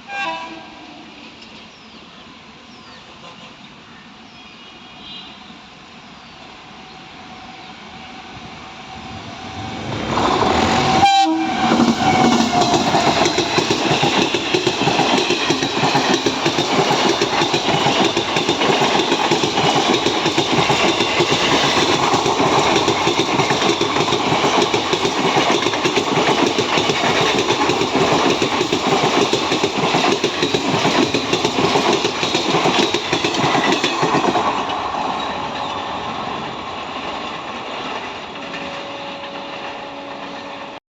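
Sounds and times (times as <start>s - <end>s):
train passing at speed: 0.0s - 40.8s.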